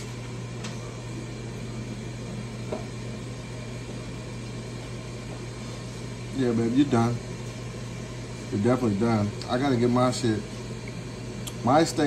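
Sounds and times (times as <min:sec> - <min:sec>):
kitchen appliance fan humming: 0:00.0 - 0:12.0.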